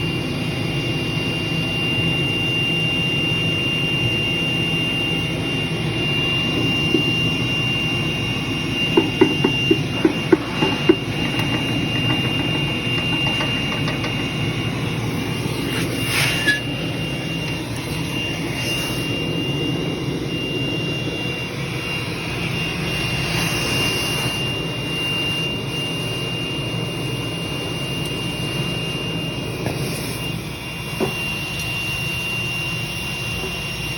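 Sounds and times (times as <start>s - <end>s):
thin high whine: 0.0s - 33.9s
welding machine hum: 4.4s - 32.3s.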